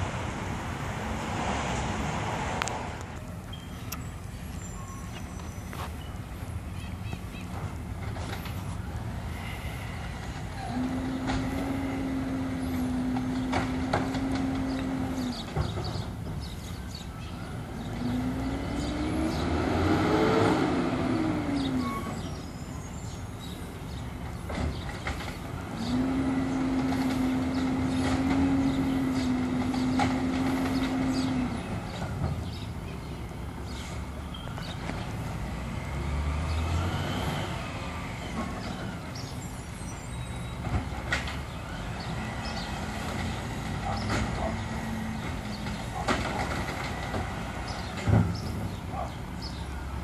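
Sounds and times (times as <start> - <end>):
recycling truck engine rumble: 0.0 - 50.0.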